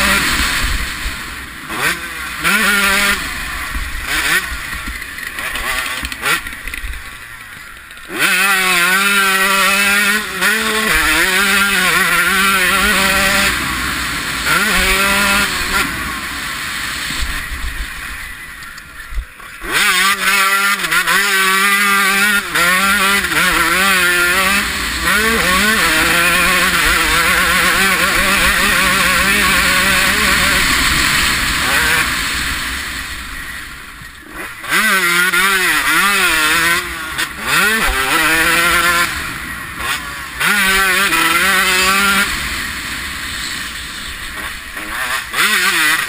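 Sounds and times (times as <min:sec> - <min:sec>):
motocross bike engine revving: 0:00.0 - 0:46.0.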